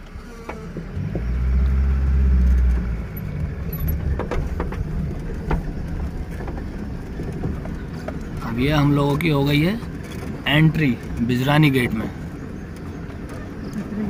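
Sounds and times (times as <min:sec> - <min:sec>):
vehicle engine revving: 0:00.0 - 0:14.0
bodywork knocks and rattles: 0:02.4 - 0:14.0.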